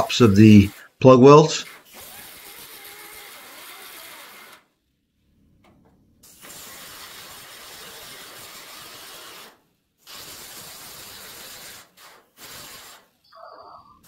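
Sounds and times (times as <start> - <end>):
air grinder grinding steel: 0.0 - 4.7, 6.2 - 13.2.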